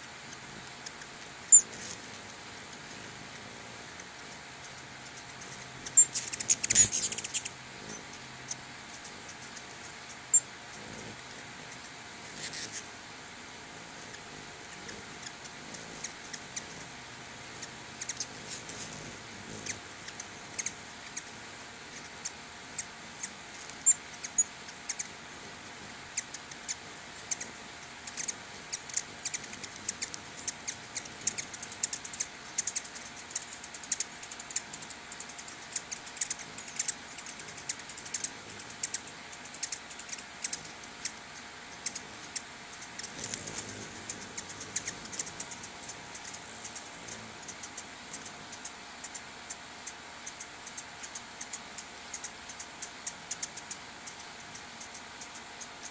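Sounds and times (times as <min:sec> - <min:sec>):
hummingbird chip calls: 0:00.0 - 0:55.9.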